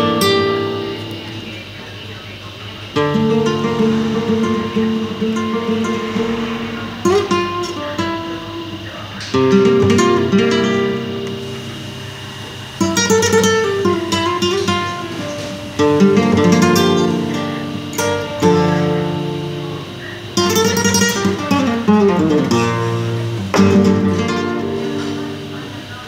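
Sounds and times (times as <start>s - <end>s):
classical guitar playing: 0.0s - 1.7s, 3.0s - 26.0s.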